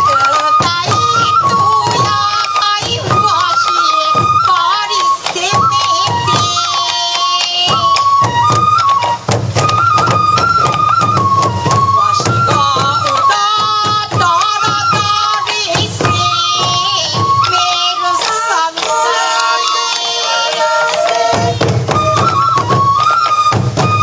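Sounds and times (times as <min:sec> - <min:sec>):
high bamboo flute melody: 0:00.0 - 0:24.0
rapid taiko drum beats: 0:00.0 - 0:24.0.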